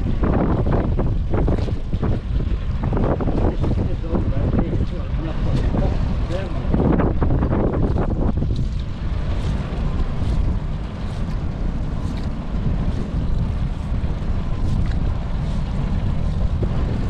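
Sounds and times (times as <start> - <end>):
boat motor running: 0.0 - 17.0
wind rumble on microphone: 0.0 - 17.0.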